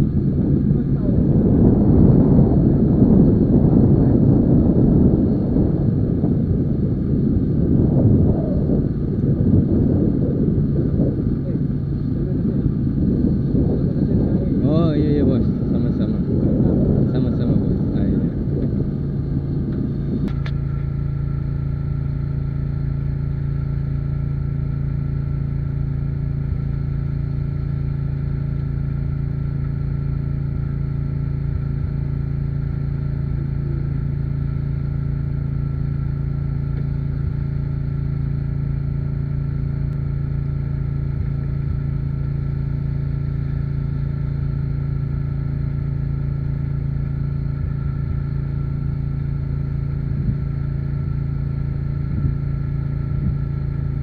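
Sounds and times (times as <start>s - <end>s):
engine running low hum: 0.0s - 54.0s.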